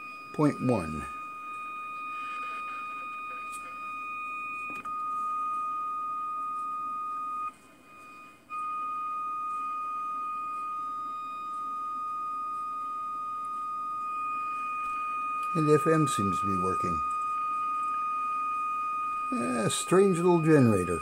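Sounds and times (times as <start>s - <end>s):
high-pitched test tone from radio: 0.0s - 21.0s.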